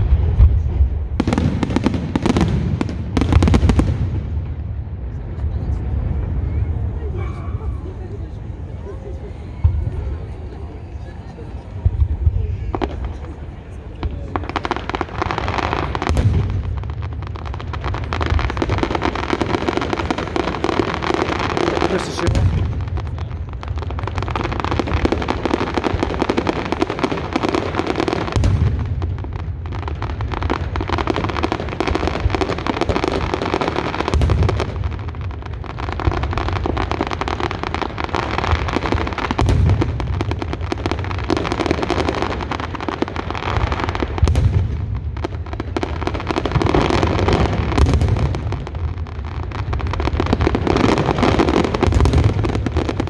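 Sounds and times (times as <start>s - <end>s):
deep fireworks booms: 0.0s - 53.0s
fireworks crackling and banging: 0.0s - 53.0s.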